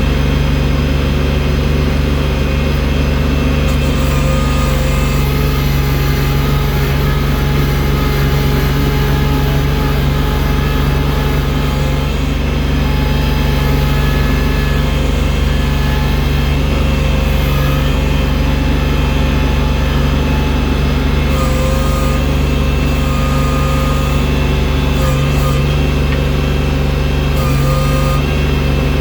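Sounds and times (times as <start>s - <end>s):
engine whining tones: 0.0s - 29.0s
tractor engine humming: 0.0s - 29.0s.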